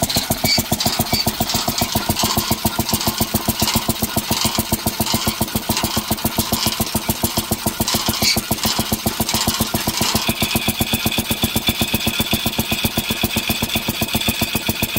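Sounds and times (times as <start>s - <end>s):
drag saw engine running: 0.0s - 14.9s.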